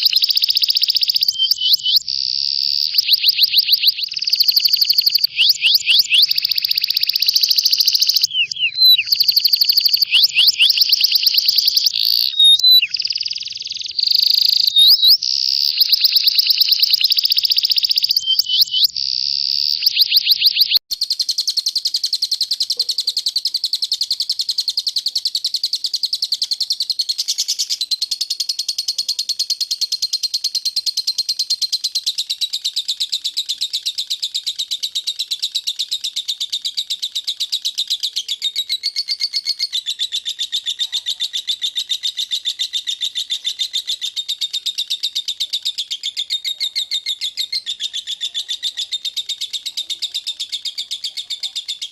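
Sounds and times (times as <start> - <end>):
bird's steady fast trill: 0.0 - 51.9
songbird trills and whistles: 0.0 - 51.9.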